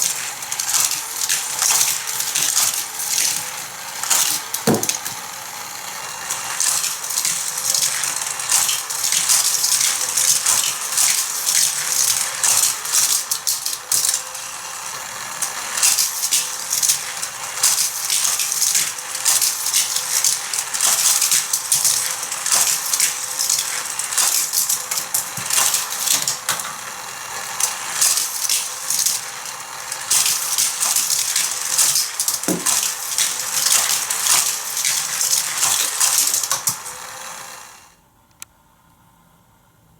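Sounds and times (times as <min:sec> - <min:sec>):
toy cars rattling around plastic track: 0:00.0 - 0:38.0.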